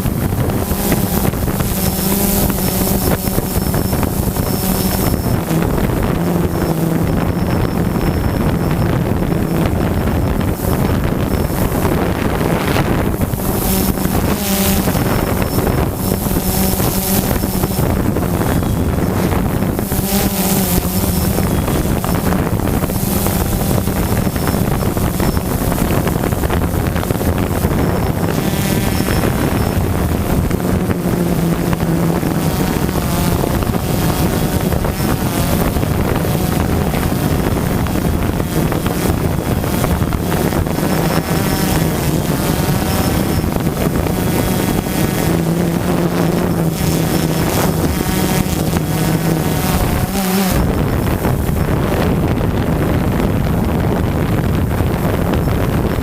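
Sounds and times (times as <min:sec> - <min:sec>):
drone propellers buzzing: 0:00.0 - 0:56.0
wind noise on microphone: 0:00.0 - 0:56.0.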